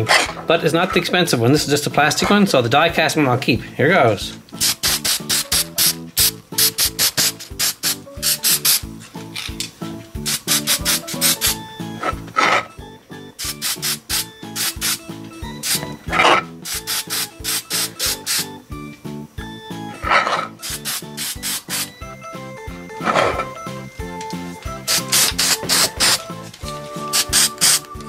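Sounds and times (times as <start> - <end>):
background music with fast beat: 0.6 - 28.0.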